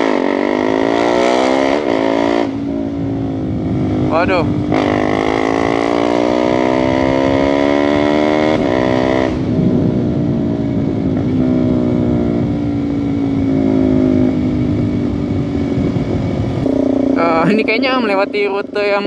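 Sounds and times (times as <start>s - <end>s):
motorcycle engine accelerating: 0.0s - 19.0s
wind rushing over microphone: 0.0s - 19.0s.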